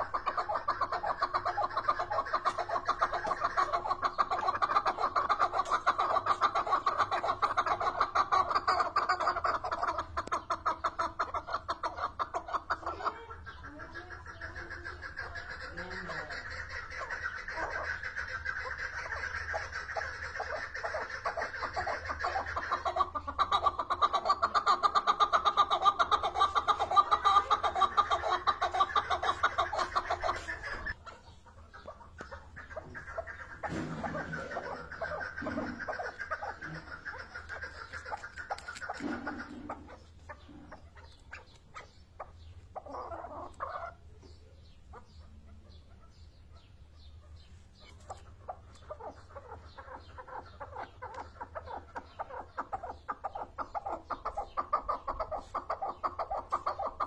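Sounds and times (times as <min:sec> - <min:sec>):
partridge clucking calls: 0:00.0 - 0:57.0.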